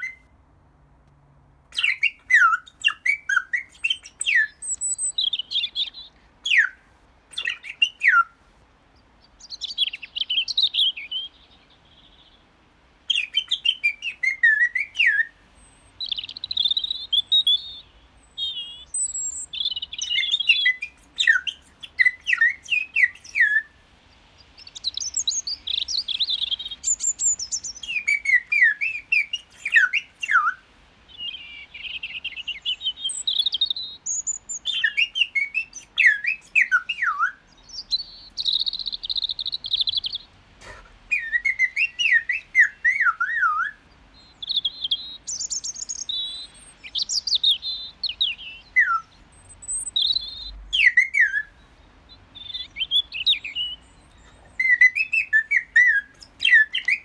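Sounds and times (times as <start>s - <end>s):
songbirds calling: 0.0s - 57.0s.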